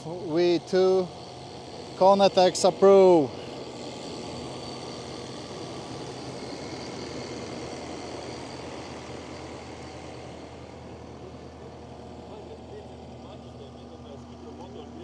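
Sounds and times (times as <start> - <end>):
track loader diesel engine: 0.0 - 15.0.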